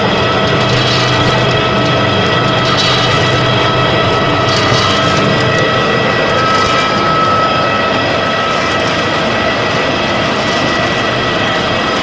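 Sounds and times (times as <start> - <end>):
pellet press machine running: 0.0 - 11.9
whining machine tones: 0.0 - 12.0.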